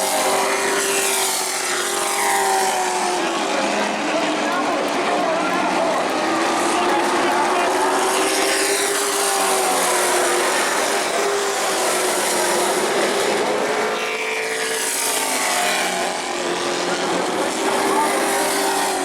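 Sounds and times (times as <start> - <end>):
race truck engines running: 0.0 - 19.0
trucks passing by: 0.0 - 19.0.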